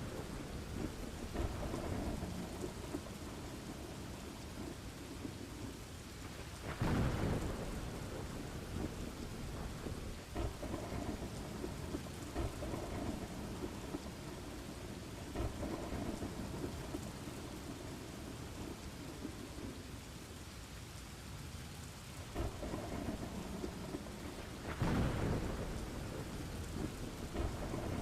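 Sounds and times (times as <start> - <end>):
thunder rumbling: 0.0 - 20.0, 22.3 - 28.0
steady rain: 0.0 - 28.0.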